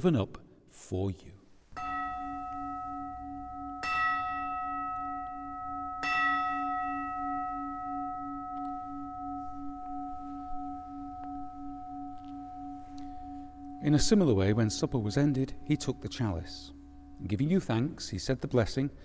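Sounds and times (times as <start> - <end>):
bell ringing: 1.8 - 18.8.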